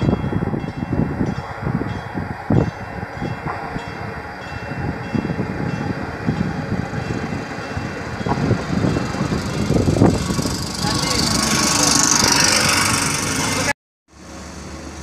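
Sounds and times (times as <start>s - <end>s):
train rumbling by: 0.0s - 15.0s.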